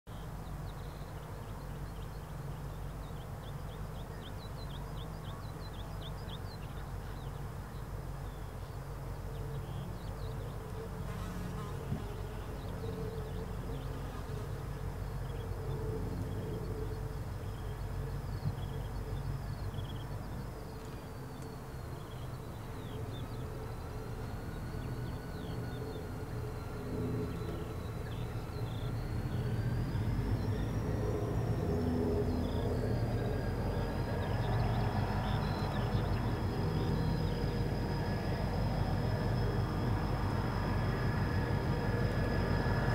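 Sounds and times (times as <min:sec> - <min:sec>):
locomotive engine drone: 0:00.1 - 0:42.9
slow gliding whine: 0:00.1 - 0:42.9.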